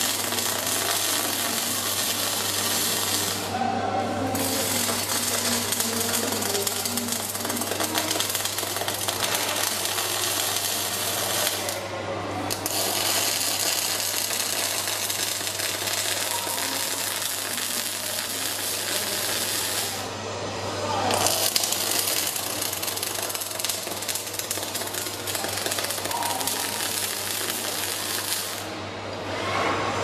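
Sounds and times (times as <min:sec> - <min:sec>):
welding arc crackling: 0:00.0 - 0:03.6, 0:04.3 - 0:20.1, 0:20.9 - 0:28.7.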